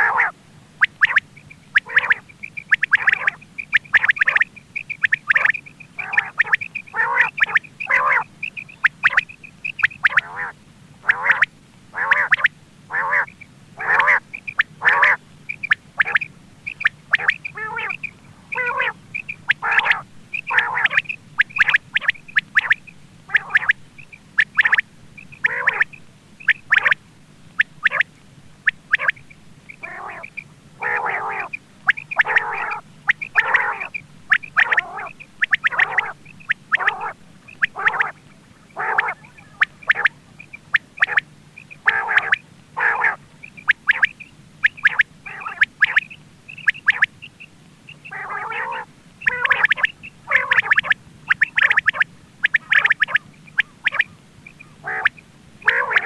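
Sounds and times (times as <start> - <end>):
quail calling: 0.0 - 56.0.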